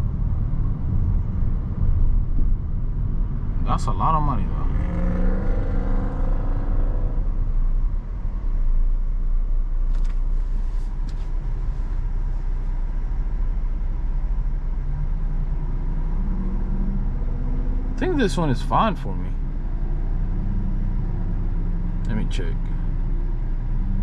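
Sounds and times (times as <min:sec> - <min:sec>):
car engine rumble inside cabin: 0:00.0 - 0:24.0.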